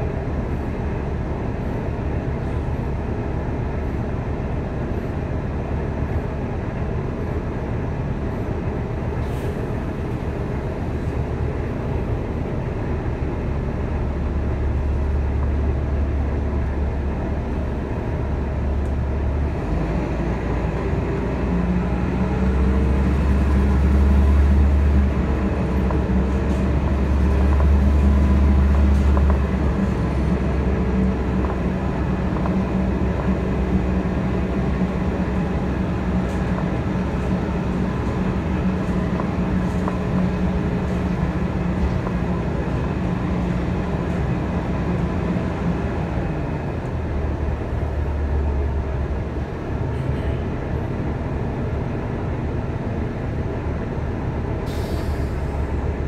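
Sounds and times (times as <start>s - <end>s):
bus engine hum: 0.0s - 56.0s
road noise: 0.0s - 56.0s.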